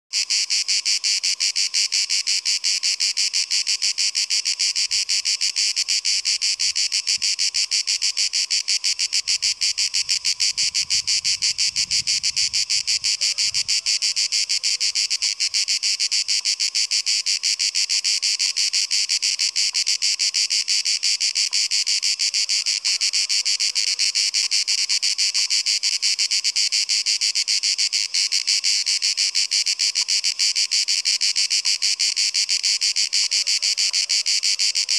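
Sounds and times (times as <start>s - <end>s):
cicadas buzzing chorus: 0.1s - 34.9s.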